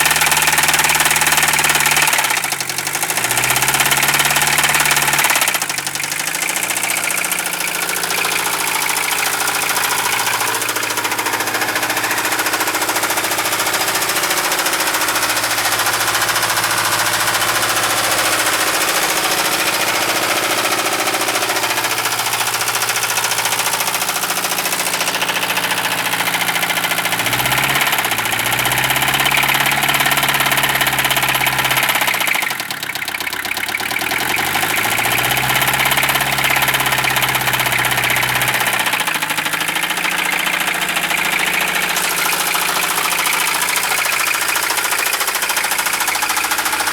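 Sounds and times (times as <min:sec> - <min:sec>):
diesel engine running with knock: 0:00.0 - 0:46.9.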